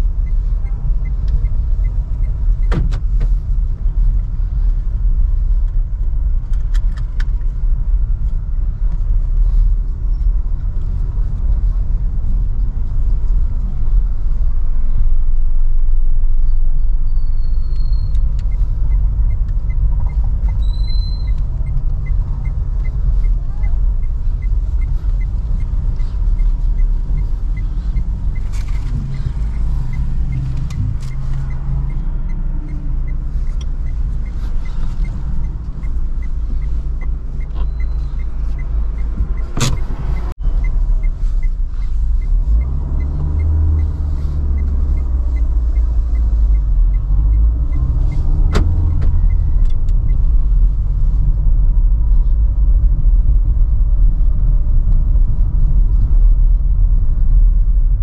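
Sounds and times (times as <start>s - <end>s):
turn signal relay ticking: 0.0s - 16.2s, 17.6s - 56.2s
car engine and road rumble: 0.0s - 58.0s.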